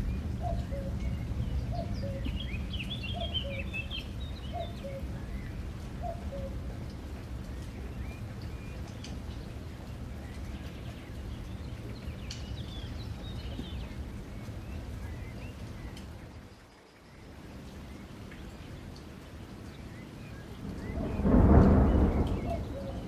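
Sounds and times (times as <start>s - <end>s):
small birds chirping: 0.0s - 23.0s
steady rain-like hiss: 0.0s - 23.0s.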